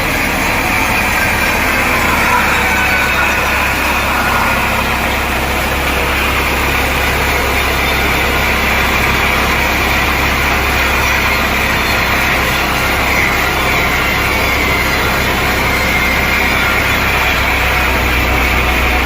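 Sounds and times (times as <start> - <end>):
high whine: 0.0 - 19.0
sawmill machinery drone: 0.0 - 19.0.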